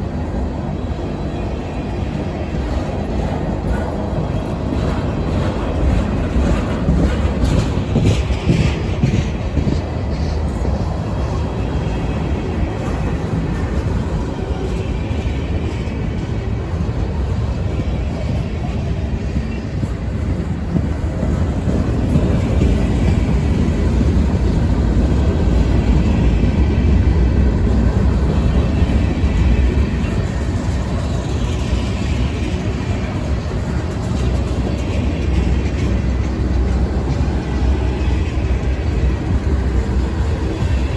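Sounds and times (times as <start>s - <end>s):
train rolling past: 0.0s - 40.9s.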